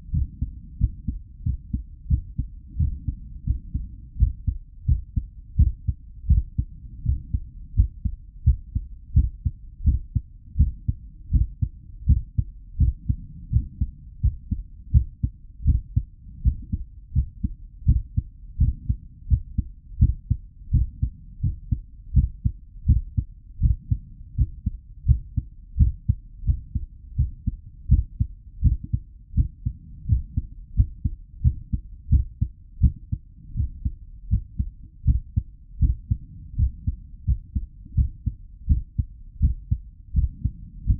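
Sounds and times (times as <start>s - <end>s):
human heartbeat: 0.0s - 40.9s.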